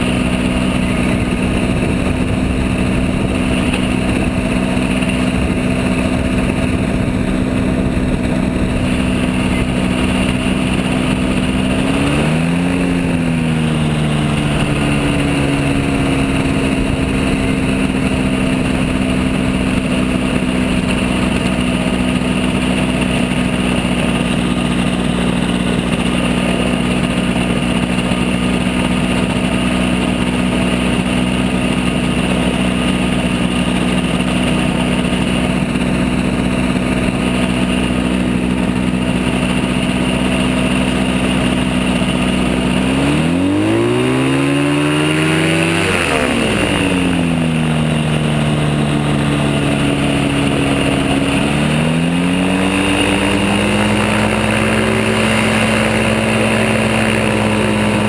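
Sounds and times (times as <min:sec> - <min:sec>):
microlight engine running: 0:00.0 - 0:58.0.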